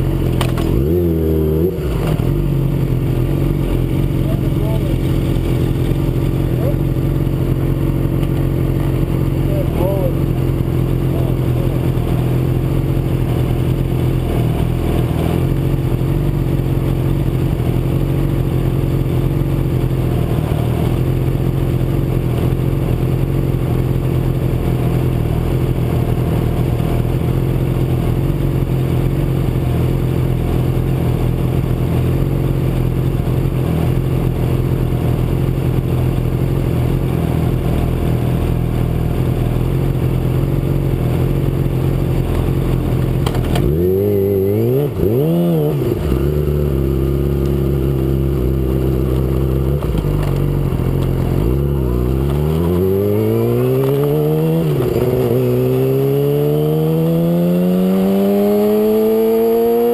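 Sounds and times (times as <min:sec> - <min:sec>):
motorcycle engine idling: 0:00.0 - 0:01.0, 0:01.9 - 0:45.2, 0:45.8 - 0:53.3.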